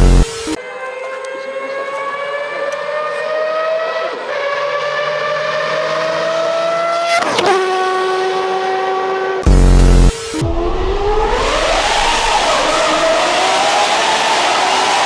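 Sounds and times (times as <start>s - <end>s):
car engine accelerating: 1.3s - 15.0s.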